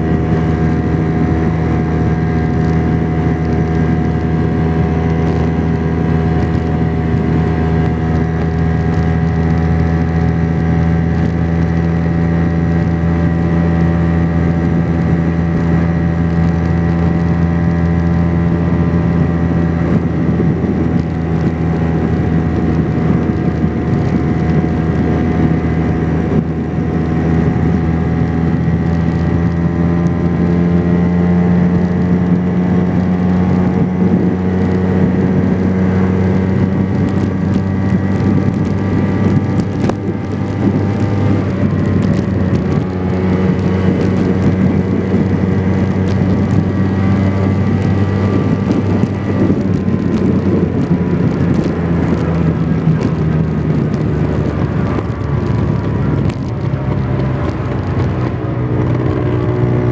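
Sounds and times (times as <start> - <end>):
scooter engine running: 0.0 - 59.9.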